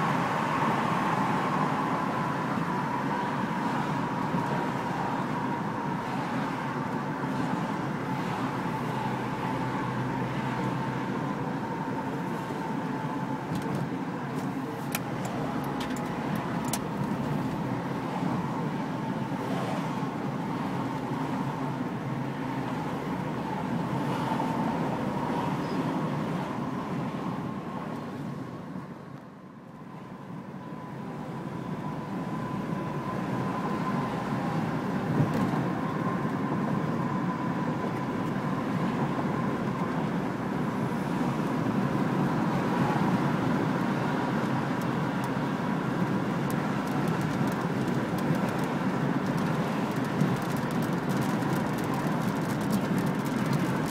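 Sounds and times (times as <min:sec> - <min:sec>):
car road noise: 0:00.0 - 0:53.9.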